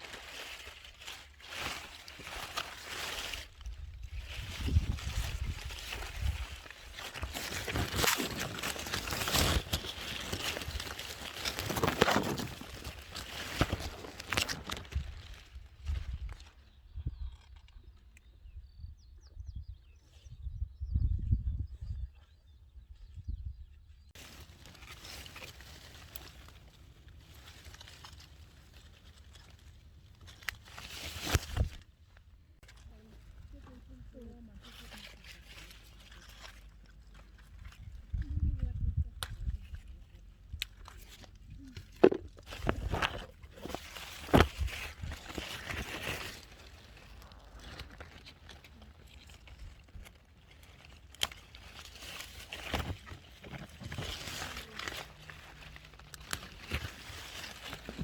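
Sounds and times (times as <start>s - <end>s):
rustling and crackling: 0.0s - 16.6s, 24.2s - 58.0s.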